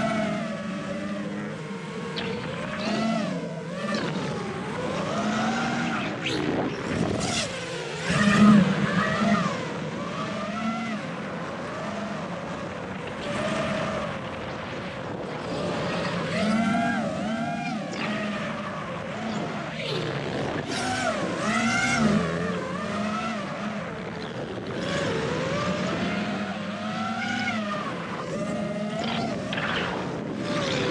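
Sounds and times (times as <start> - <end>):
drone motors whining: 0.0 - 30.9.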